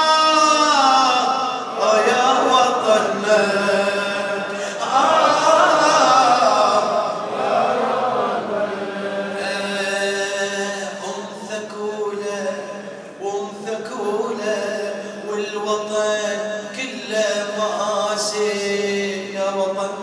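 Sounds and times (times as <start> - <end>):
man chanting over loudspeakers: 0.0 - 20.0.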